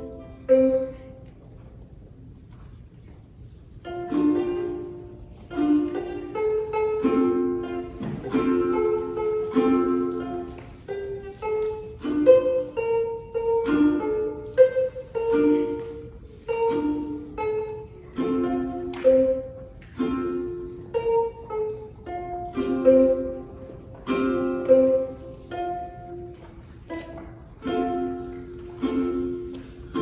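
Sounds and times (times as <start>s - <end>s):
ukulele playing: 0.0s - 30.0s.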